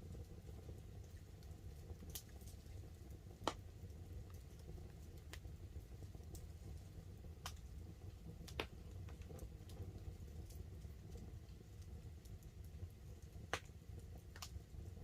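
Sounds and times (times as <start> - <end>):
campfire crackling: 0.0 - 15.0
rain pattering on a tarp: 0.0 - 15.0.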